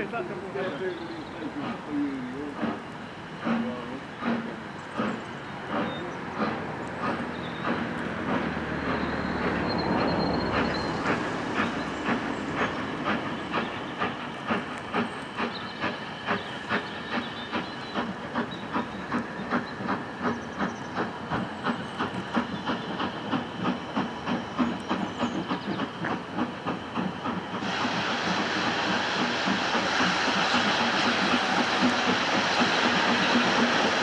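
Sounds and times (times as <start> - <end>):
loud steady steam hiss: 0.0 - 34.0
steam locomotive chimney exhaust beats: 0.0 - 34.0.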